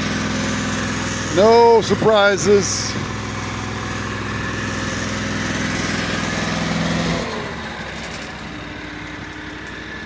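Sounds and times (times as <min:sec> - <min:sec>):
gasoline engine running: 0:00.0 - 0:10.0.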